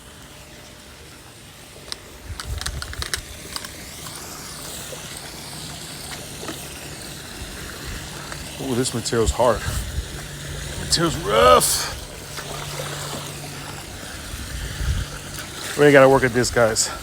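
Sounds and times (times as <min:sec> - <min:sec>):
pool brush scrubbing: 0:00.0 - 0:17.0.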